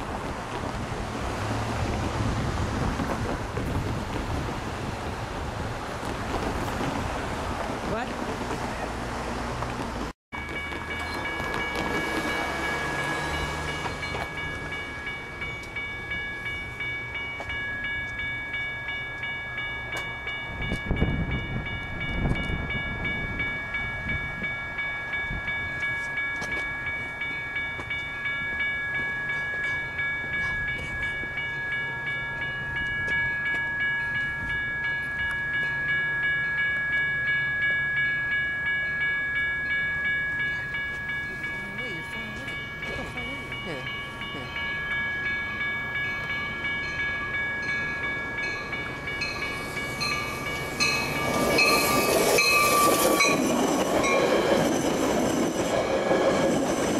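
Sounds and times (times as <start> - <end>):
crossing warning bell ringing: 10.3 - 56.9.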